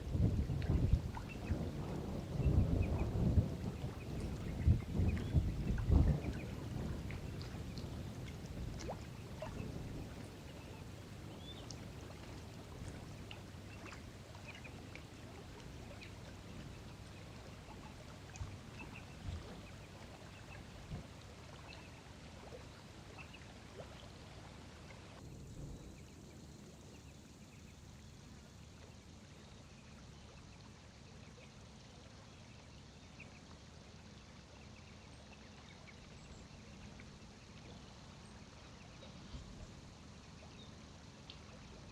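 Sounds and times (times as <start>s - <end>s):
low steady rumble: 0.0s - 41.9s.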